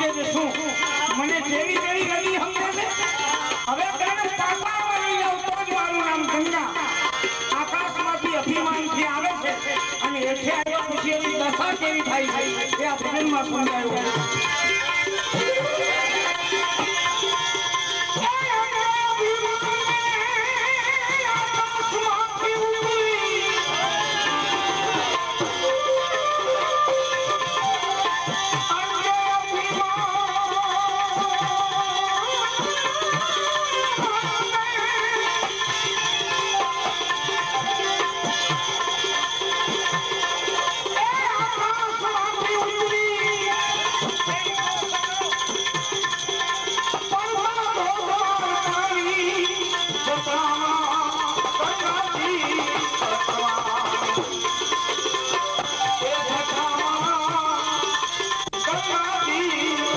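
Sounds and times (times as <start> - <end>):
percussion beat: 0.0 - 59.9.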